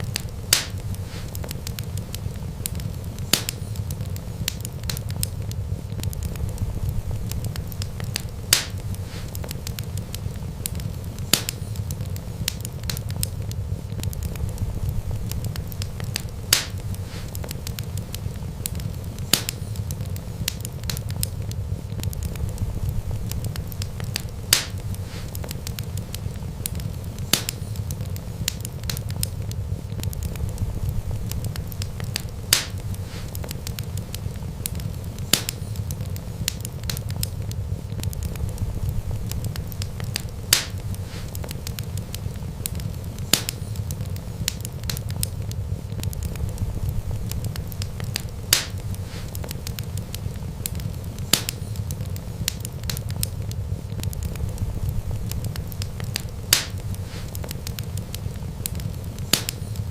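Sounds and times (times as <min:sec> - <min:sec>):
fire crackling pops: 0:00.0 - 0:59.9
wood fire rumbling: 0:00.0 - 0:59.9.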